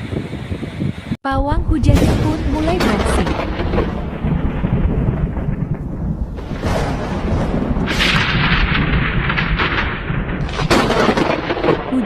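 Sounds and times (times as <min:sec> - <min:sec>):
rainstorm rushing hiss: 0:02.0 - 0:12.0.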